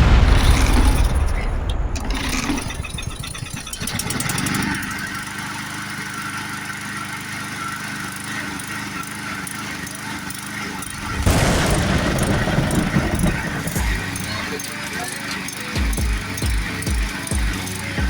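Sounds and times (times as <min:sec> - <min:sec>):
lawn mower engine running: 0:01.9 - 0:18.0.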